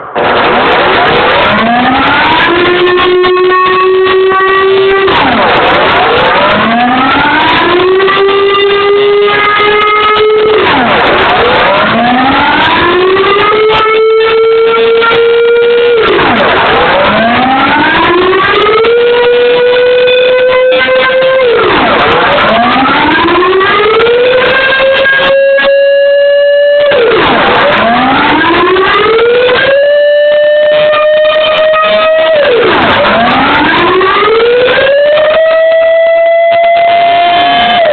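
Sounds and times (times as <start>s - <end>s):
air-raid siren rising and falling: 0.0s - 37.9s.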